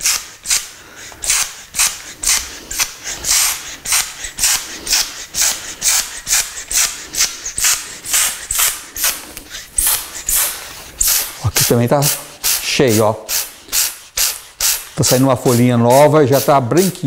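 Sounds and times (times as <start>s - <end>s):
spray bottle hissing squirts: 0.0s - 17.0s.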